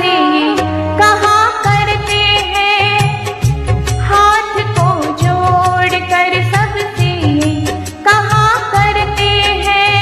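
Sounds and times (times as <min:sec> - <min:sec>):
woman singing: 0:00.0 - 0:10.0.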